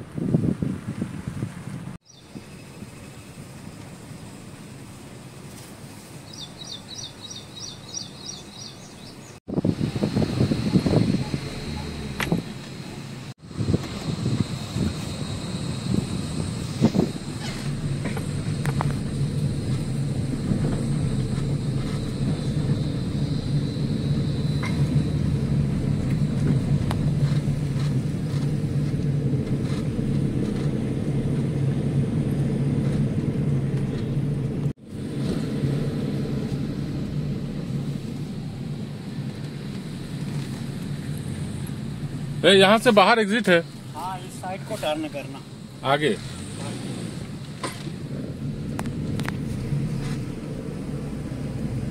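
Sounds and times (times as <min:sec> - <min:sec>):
car engine hum: 0:00.0 - 0:51.9
road noise: 0:00.0 - 0:51.9.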